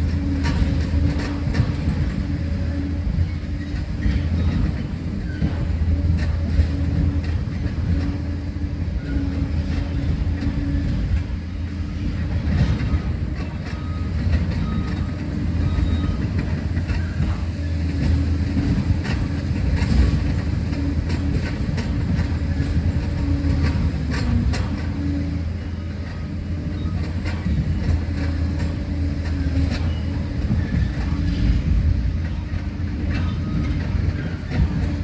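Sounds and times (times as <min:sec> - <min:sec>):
diesel engine running: 0:00.0 - 0:35.0
steel tracks clanking: 0:00.0 - 0:35.0.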